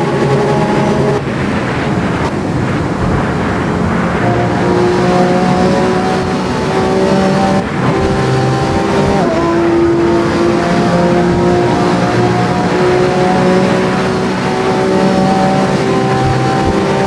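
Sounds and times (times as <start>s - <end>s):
car engine under load: 0.0s - 17.0s.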